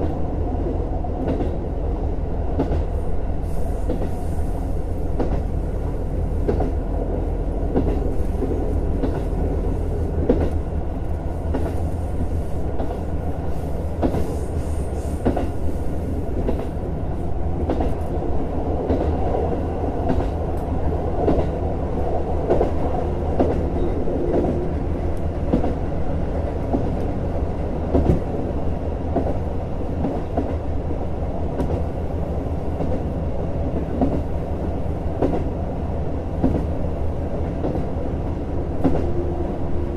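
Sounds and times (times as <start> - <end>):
railcar rumbling: 0.0 - 39.9.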